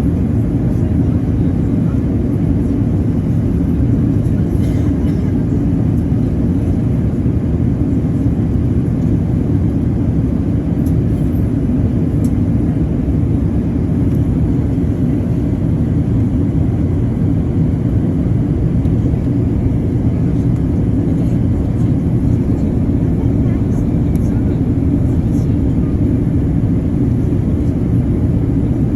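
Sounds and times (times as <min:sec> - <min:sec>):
low rumble of engines and air: 0:00.0 - 0:28.9.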